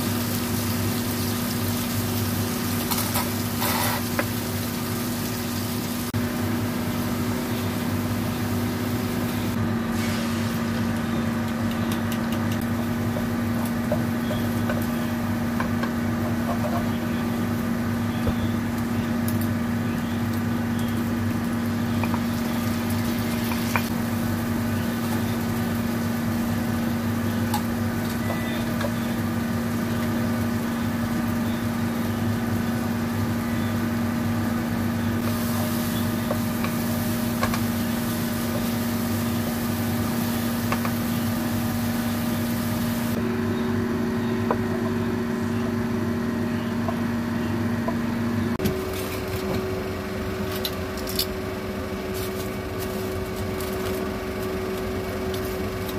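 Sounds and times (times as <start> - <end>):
electric motor and fan hum: 0.0 - 55.9
food frying in a wok: 0.0 - 55.9.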